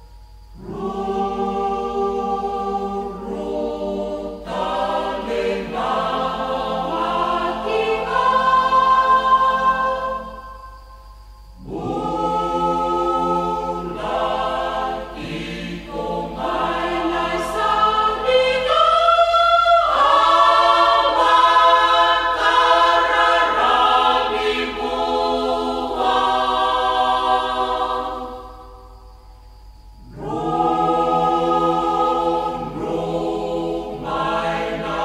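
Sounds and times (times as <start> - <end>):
choir singing a slow hymn: 0.0 - 35.0.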